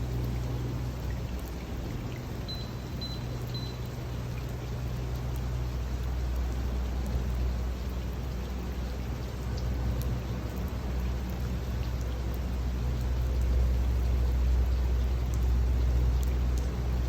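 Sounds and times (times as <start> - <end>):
rain drop ticks: 0.0 - 17.0
steady rainfall: 0.0 - 17.0.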